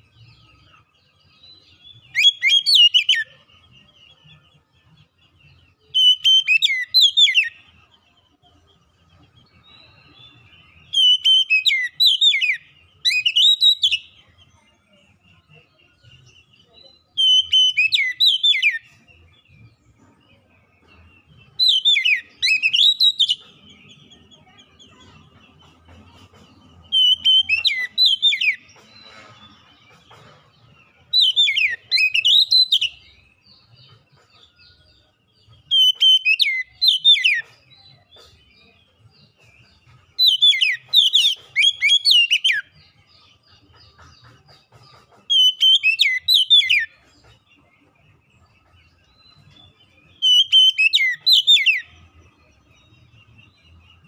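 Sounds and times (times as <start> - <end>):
bird singing whistled notes: 0.0 - 44.3, 45.2 - 54.0.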